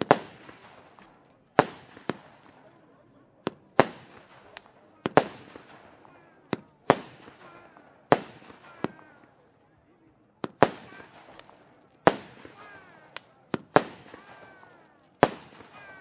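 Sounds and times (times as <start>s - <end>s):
fireworks bangs: 0.0s - 2.8s, 3.4s - 9.4s, 10.4s - 16.0s.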